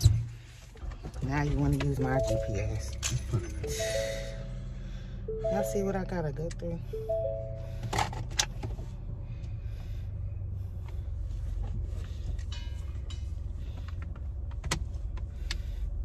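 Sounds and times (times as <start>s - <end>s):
low rumble of car cabin: 0.0s - 16.0s.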